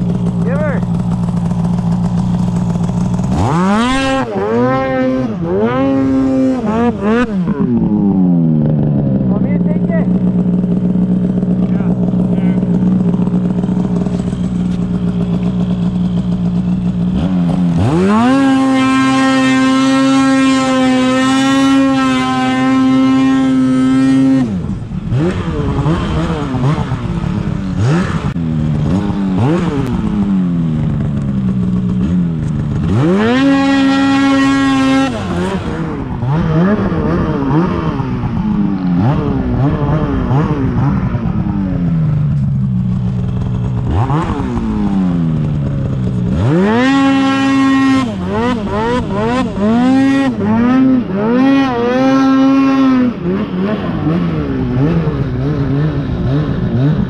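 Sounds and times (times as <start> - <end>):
snowmobile engine idling and revving: 0.0 - 57.0.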